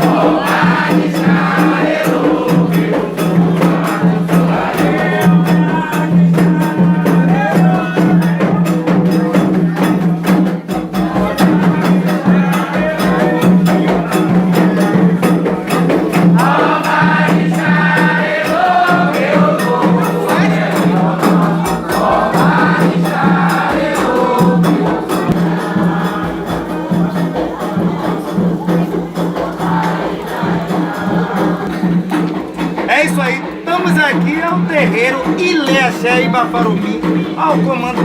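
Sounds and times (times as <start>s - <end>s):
group of voices singing: 0.0s - 38.0s
rhythmic percussion strikes: 0.0s - 38.0s.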